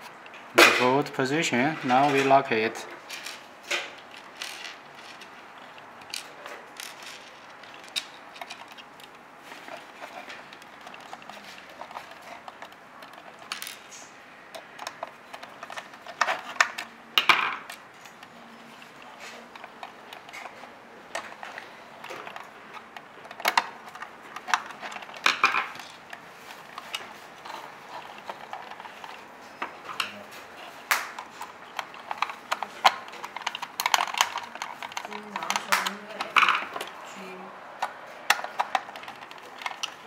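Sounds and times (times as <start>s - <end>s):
plastic parts clicking and rattling: 0.0s - 40.0s.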